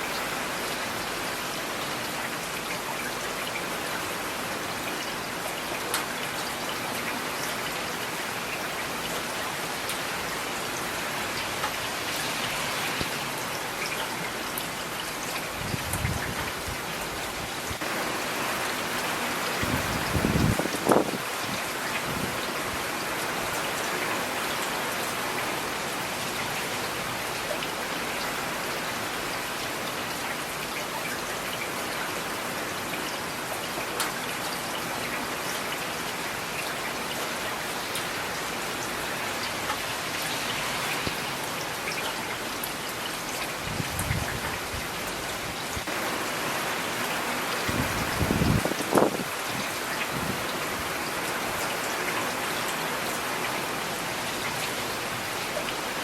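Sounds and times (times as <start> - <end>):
steady rain: 0.0 - 56.0
raindrops ticking on a surface: 0.1 - 46.1.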